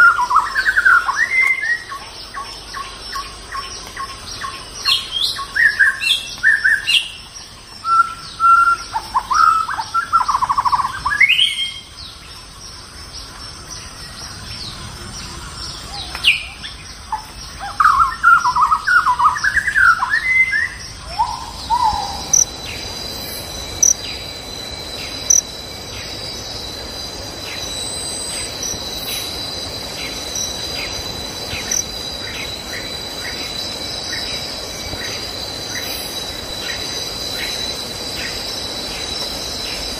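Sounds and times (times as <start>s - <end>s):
birds chirping and whistling: 0.0s - 12.3s, 13.1s - 39.9s
high insect drone: 0.0s - 39.9s.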